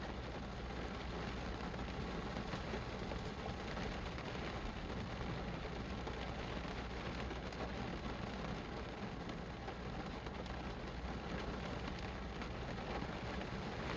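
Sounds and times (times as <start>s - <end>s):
constant low rumble: 0.0s - 13.9s
steady rain falling: 0.0s - 13.9s.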